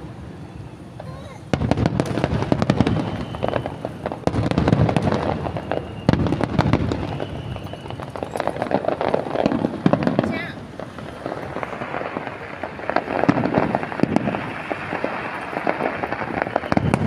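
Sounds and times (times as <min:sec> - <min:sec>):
fireworks crackling: 0:00.0 - 0:17.0
fireworks booms: 0:01.0 - 0:17.0.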